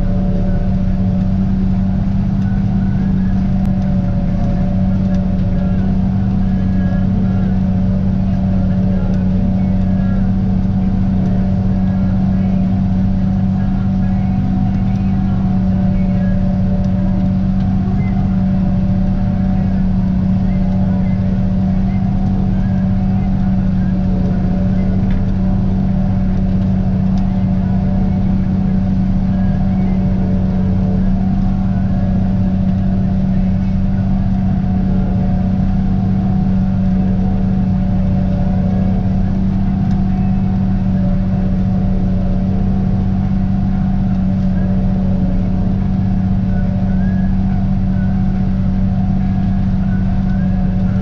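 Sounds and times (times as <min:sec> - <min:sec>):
tractor and forage harvester drone: 0:00.0 - 0:51.0.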